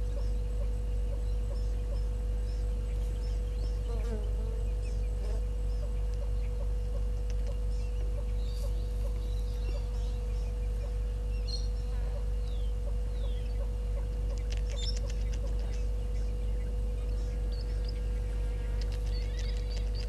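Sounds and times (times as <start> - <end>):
bird chirps: 0.0 - 20.0
low hum: 0.0 - 20.0.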